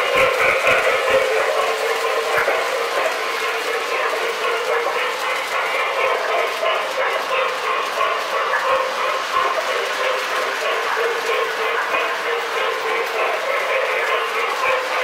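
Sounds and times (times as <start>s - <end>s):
toy train wheels clattering on rails: 0.0s - 15.0s.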